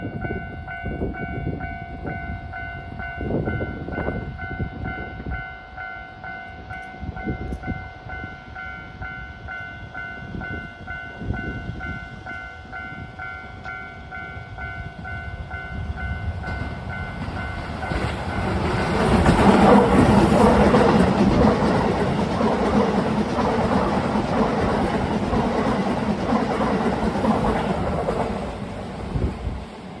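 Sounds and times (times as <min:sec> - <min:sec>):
level-crossing warning bell: 0:00.0 - 0:28.4
electric train passing: 0:00.0 - 0:30.0.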